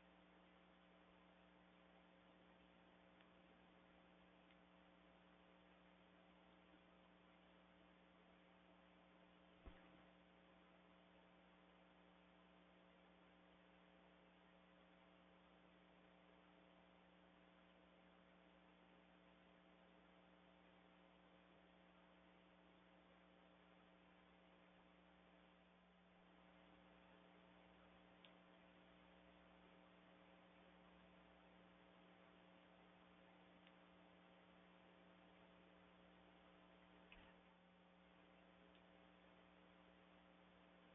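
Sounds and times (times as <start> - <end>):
faint electrical hum: 0.0 - 40.9.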